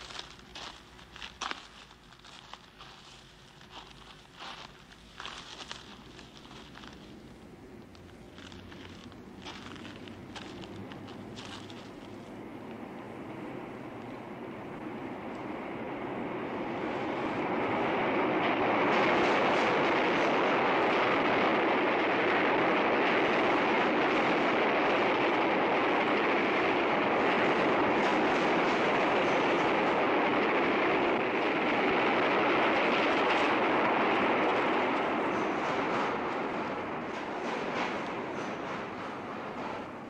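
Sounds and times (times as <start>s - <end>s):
subway train rushing past: 0.0s - 40.0s.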